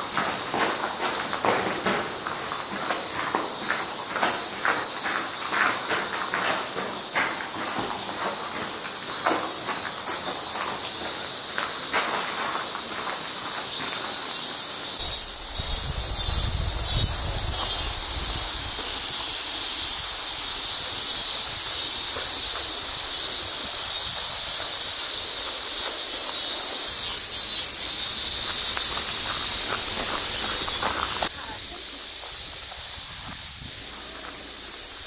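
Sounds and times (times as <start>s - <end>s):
cicadas buzzing: 0.0s - 35.0s.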